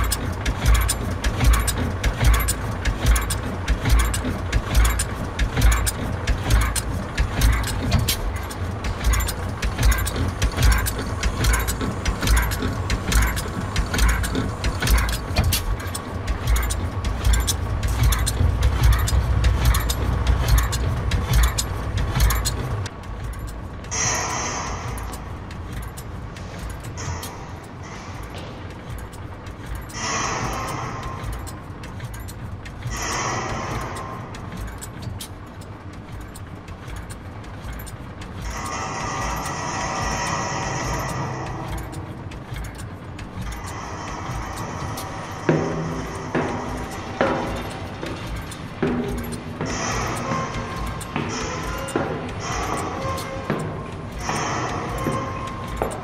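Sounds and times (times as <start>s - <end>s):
engine knocking beat: 0.0s - 56.0s.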